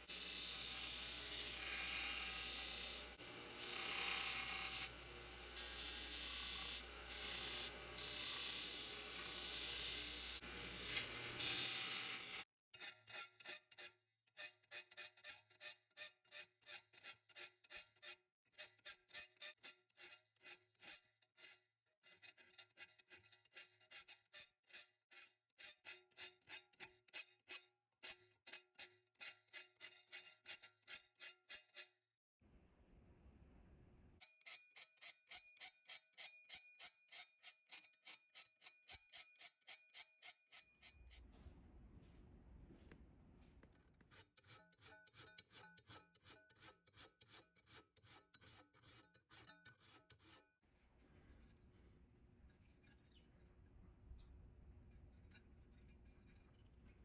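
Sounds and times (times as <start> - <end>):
file stroking ringing steel: 0.0 - 32.0, 34.2 - 41.3, 44.1 - 50.5, 52.5 - 53.3, 54.9 - 57.0.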